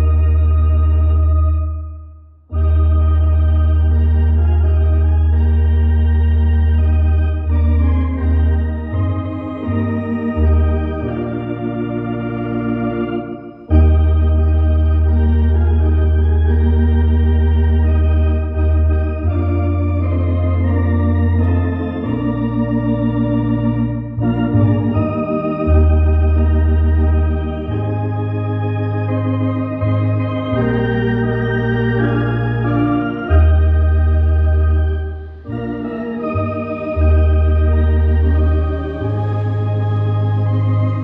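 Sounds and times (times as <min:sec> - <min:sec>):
organ playing a hymn: 0:00.0 - 0:41.0.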